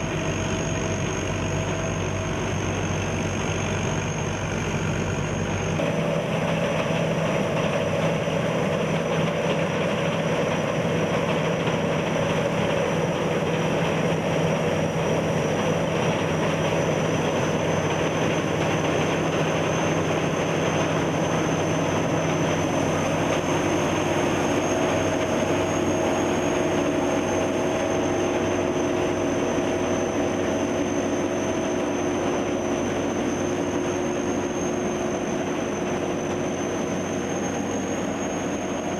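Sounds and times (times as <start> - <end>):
combine harvester drone: 0.0 - 38.9
high steady whine: 0.0 - 38.9.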